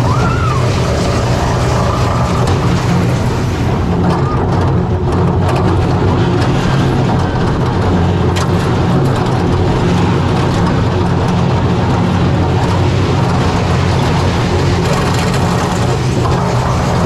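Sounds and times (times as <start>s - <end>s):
roller coaster car rumbling on track: 0.0s - 17.0s.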